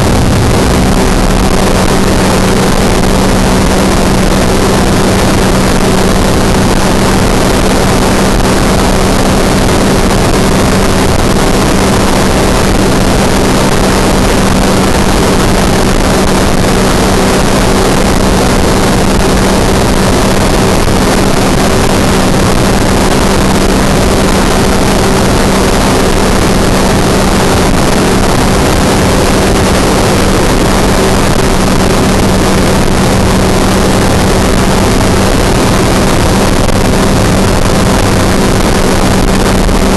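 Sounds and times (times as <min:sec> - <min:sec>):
aircraft engine and propeller drone: 0:00.0 - 0:39.9
wind rush: 0:00.0 - 0:39.9.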